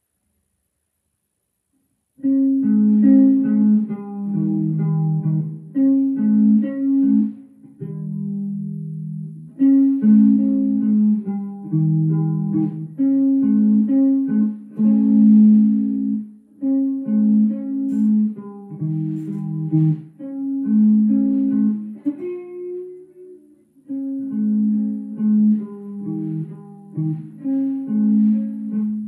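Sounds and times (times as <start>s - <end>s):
plucked guitar melody: 2.2s - 29.0s.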